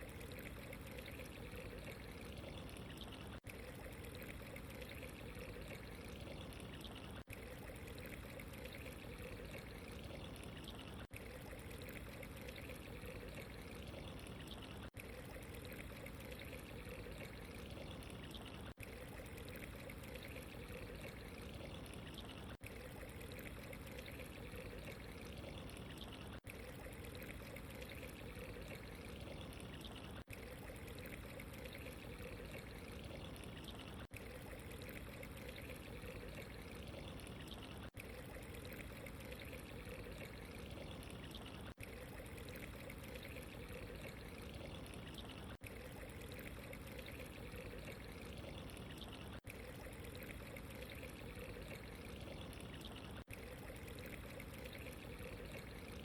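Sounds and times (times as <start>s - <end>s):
running water trickling: 0.0s - 56.0s.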